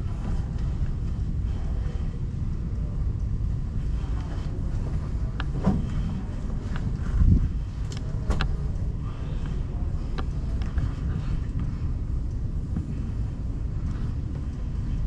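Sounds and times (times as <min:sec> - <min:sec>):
low indoor rumble: 0:00.0 - 0:15.0.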